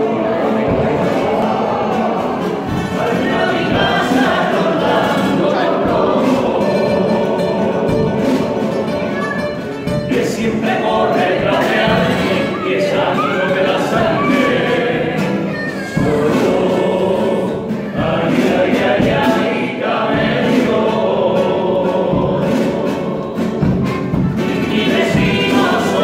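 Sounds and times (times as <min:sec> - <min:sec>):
hand drum beats: 0:00.0 - 0:26.0
men singing in harmony: 0:00.0 - 0:26.0.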